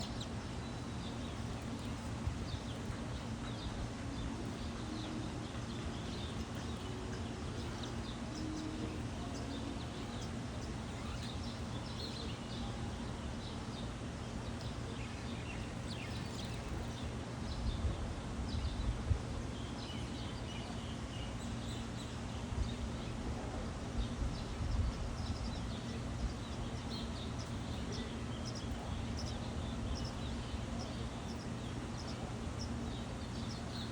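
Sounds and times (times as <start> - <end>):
low background hum: 0.0 - 33.9
small birds chirping: 0.0 - 33.9.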